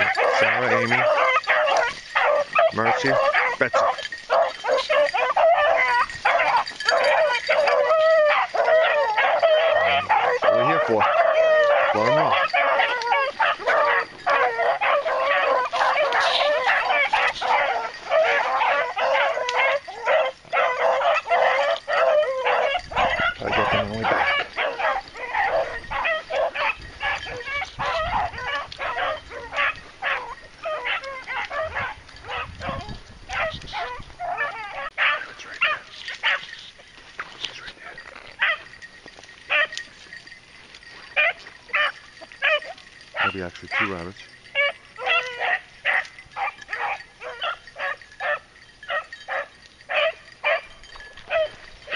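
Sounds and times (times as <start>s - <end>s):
beagles baying: 0.0s - 51.9s.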